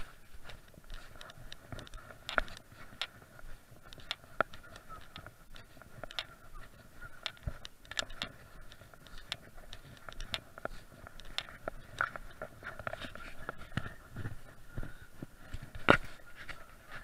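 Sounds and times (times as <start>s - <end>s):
footsteps on wet grass: 0.0s - 17.0s.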